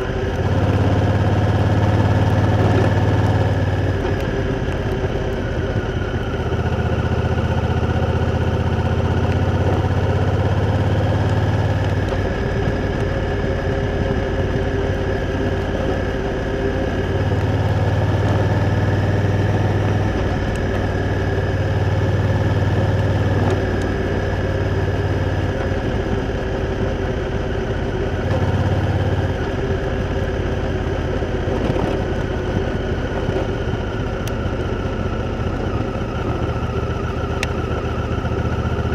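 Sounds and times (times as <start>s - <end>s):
motorcycle engine at low revs: 0.0s - 38.9s.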